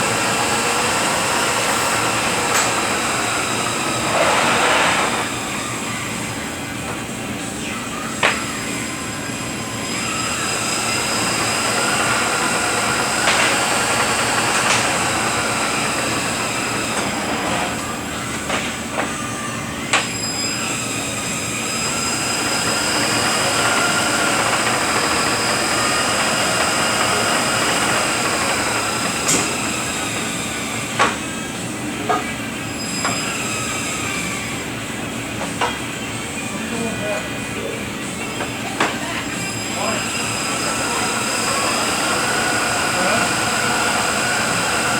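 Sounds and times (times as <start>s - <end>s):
transmission gear whine: 0.0s - 44.9s.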